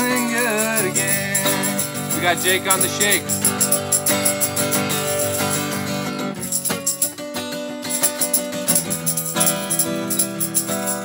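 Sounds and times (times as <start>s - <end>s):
hand shaker rattling: 0.0s - 7.2s, 7.8s - 11.0s
acoustic guitar strumming: 0.0s - 11.0s.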